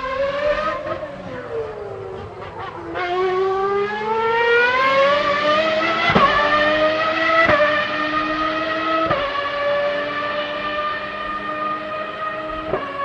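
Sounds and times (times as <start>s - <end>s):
racing engine accelerating: 0.0s - 13.0s.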